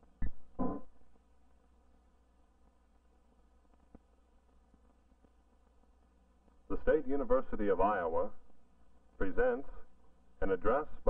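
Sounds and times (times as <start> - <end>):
film soundtrack hum and hiss: 0.0 - 11.0.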